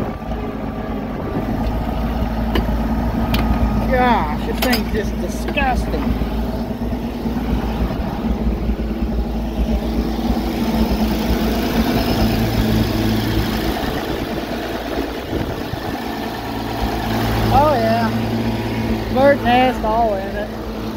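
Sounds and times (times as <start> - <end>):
low hum: 0.0 - 20.9
tractor engine idling: 0.0 - 20.9.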